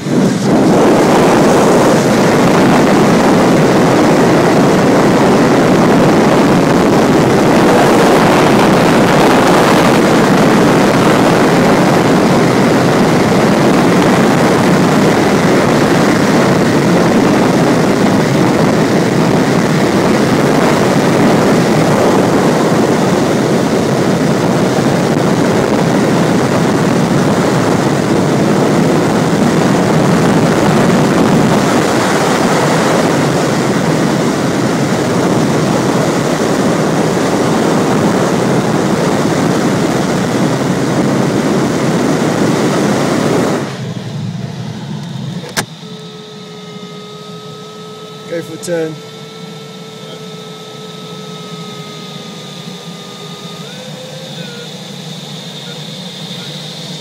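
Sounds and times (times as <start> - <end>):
air rushing around glider: 0.0 - 57.0.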